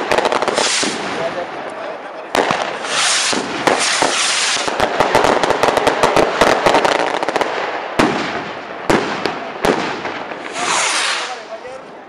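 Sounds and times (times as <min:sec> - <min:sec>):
firecrackers crackling: 0:00.0 - 0:12.0
firework bangs: 0:00.0 - 0:12.0.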